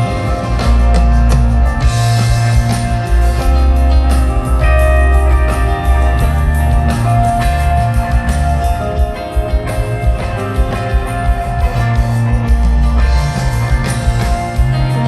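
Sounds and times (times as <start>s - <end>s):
bass guitar: 0.0s - 15.0s
drums: 0.0s - 15.0s
electric guitar bending notes: 0.0s - 15.0s.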